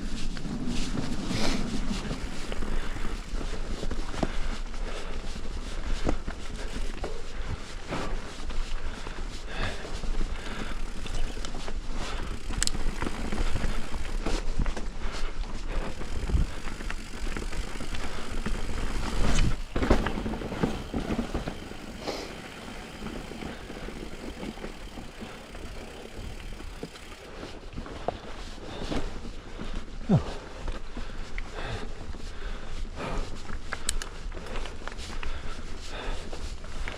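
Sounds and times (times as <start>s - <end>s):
bike tyres on dirt trail: 0.0s - 36.9s
bike clicks and rattles: 0.1s - 36.9s.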